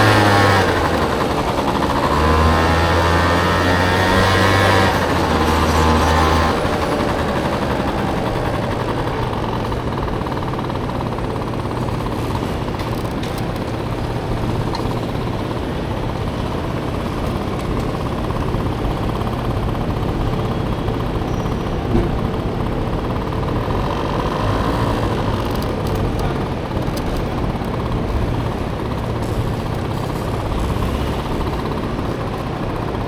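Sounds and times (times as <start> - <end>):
scooter engine running: 0.0 - 33.0.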